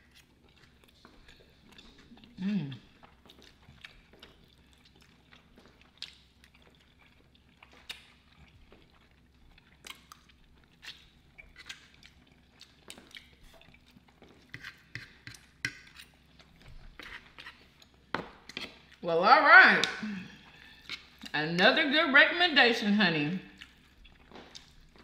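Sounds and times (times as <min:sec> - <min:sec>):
people chewing food: 0:00.0 - 0:19.0, 0:19.9 - 0:21.4, 0:23.4 - 0:25.0.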